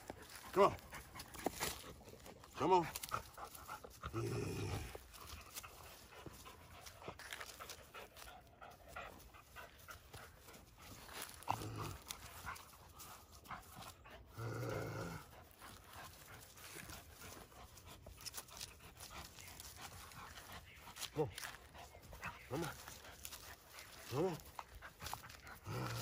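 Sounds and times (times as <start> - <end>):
dog panting: 0.0 - 26.0
dog low vocal sounds: 0.3 - 10.2, 10.9 - 16.2, 16.8 - 26.0.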